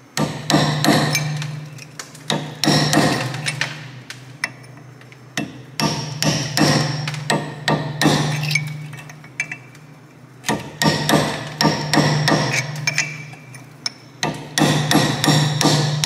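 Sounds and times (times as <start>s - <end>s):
hammer striking chisel on metal: 0.2s - 4.8s, 5.4s - 9.7s, 10.4s - 16.0s.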